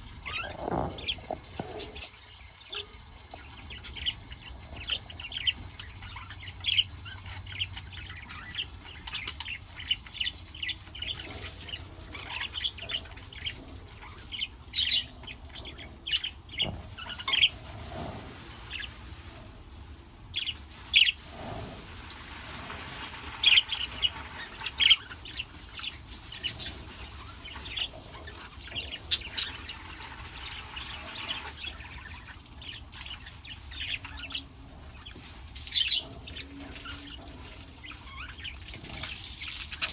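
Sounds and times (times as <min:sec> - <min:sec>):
parrots chirping: 0:00.0 - 0:19.0, 0:22.8 - 0:39.9
soft rushing hiss: 0:00.0 - 0:37.0.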